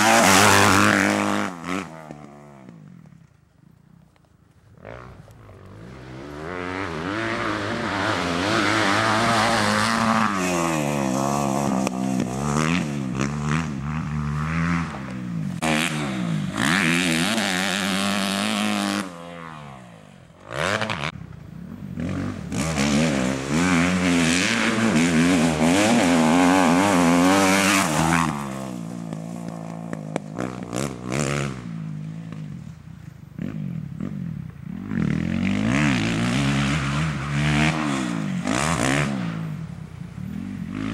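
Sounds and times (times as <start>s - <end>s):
motocross bike engine revving: 0.0s - 3.2s, 4.8s - 32.6s, 33.4s - 40.9s.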